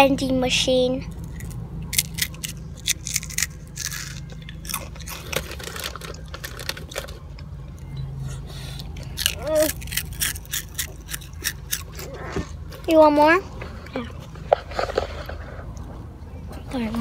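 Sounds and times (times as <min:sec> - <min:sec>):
steady low hum: 0:00.0 - 0:17.0
child chewing crunchy snack: 0:01.1 - 0:15.9.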